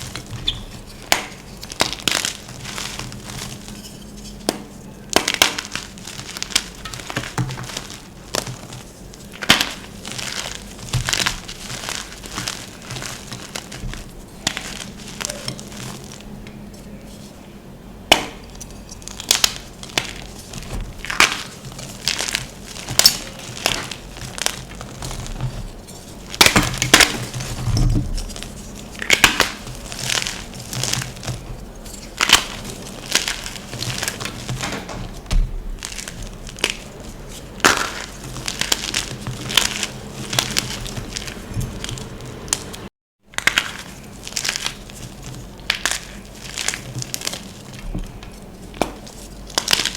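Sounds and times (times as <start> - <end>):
chalk being crushed and crumbled: 0.0 - 17.4, 18.1 - 49.9.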